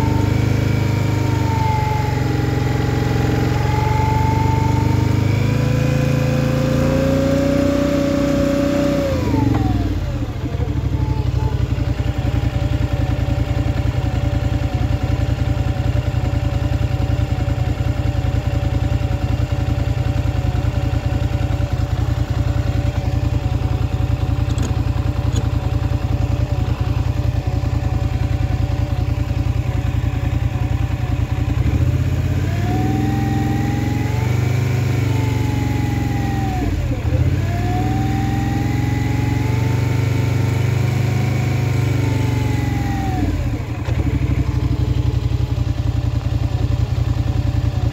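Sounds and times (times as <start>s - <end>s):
atv engine revving and idling: 0.0s - 47.9s.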